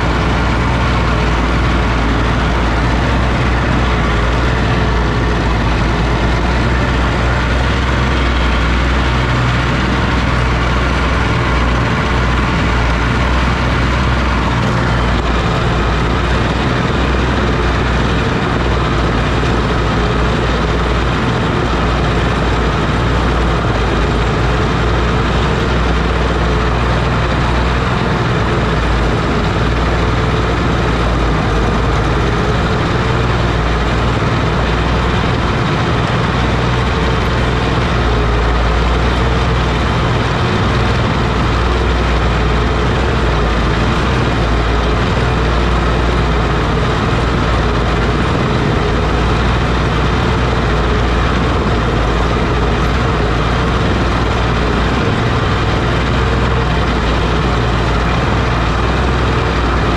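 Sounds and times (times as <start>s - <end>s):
crawler tractor engine running: 0.0s - 59.9s.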